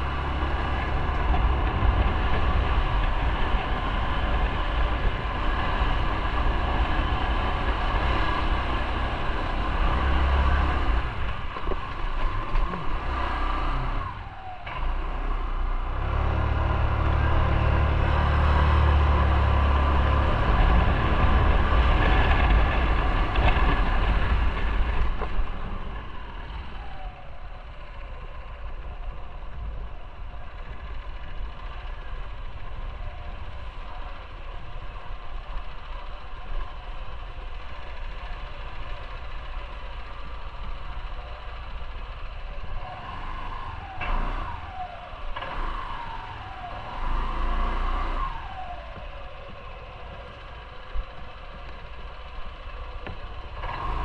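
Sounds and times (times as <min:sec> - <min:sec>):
motorcycle engine pulling under load: 0:00.0 - 0:29.0, 0:36.4 - 0:54.0.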